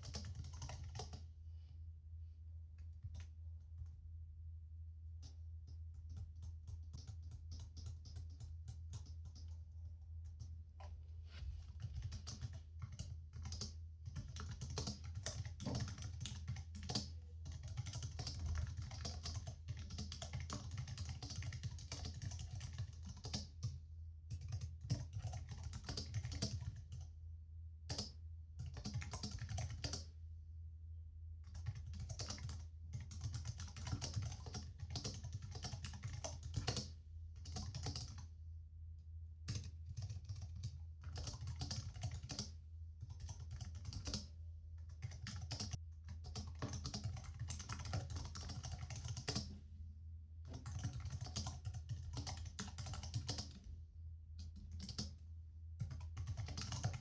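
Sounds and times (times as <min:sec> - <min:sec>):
keyboard typing: 0:00.0 - 0:01.2, 0:05.2 - 0:11.0, 0:11.7 - 0:27.0, 0:27.9 - 0:30.1, 0:31.5 - 0:38.2, 0:39.5 - 0:49.6, 0:50.5 - 0:53.7, 0:54.4 - 0:55.2, 0:55.8 - 0:57.0.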